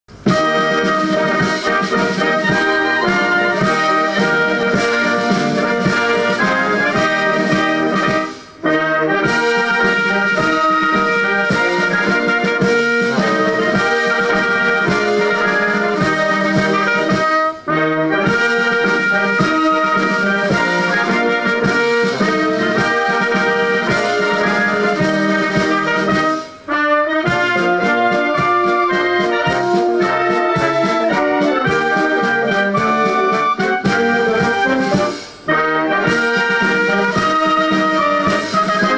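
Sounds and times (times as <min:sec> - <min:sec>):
brass band playing: 0:00.1 - 0:38.9.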